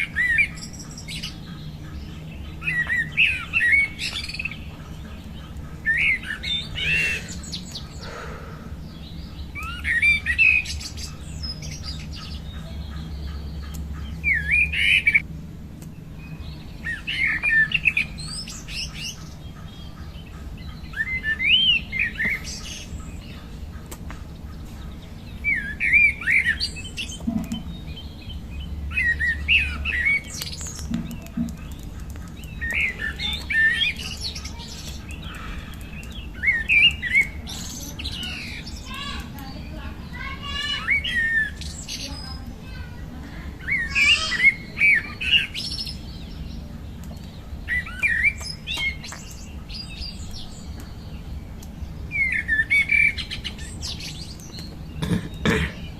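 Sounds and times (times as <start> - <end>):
low steady hum: 0.0 - 55.9
songbird chirping: 0.0 - 55.9.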